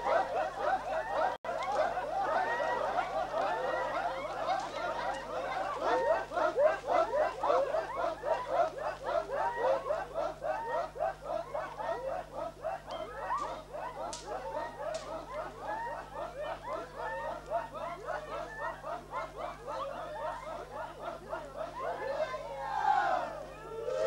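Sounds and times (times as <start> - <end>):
men chanting with yelps and whoops: 0.0 - 24.0.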